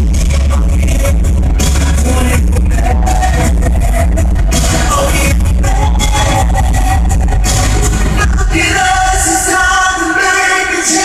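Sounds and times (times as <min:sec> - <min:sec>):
live pop song over pa: 0:00.0 - 0:11.0
singer holding melody: 0:00.3 - 0:11.0.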